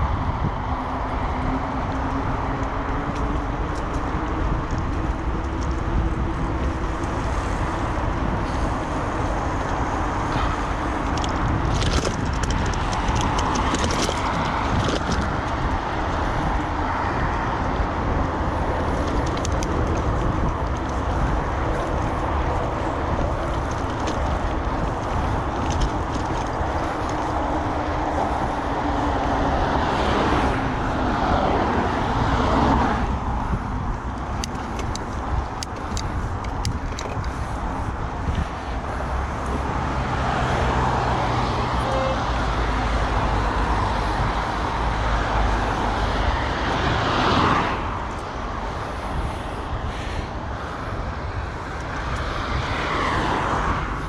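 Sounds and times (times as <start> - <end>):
road traffic: 0.0 - 54.0
vehicle passing: 0.0 - 54.0
wind rumble on microphone: 0.0 - 54.0.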